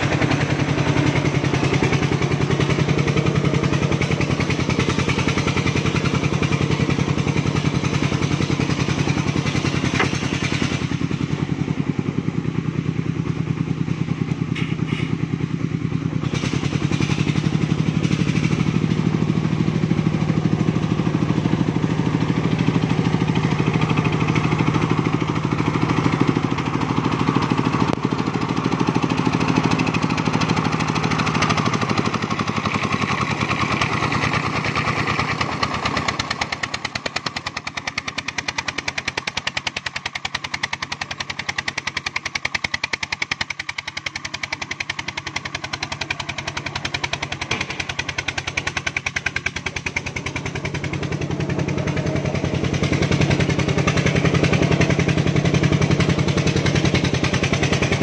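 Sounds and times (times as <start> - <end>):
single-cylinder diesel engine chugging: 0.0 - 58.0.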